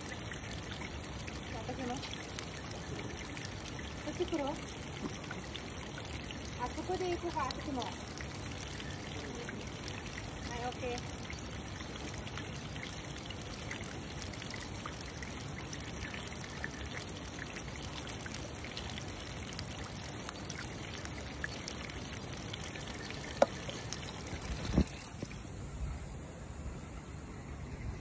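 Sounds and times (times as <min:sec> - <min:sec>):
water running: 0:00.0 - 0:25.6.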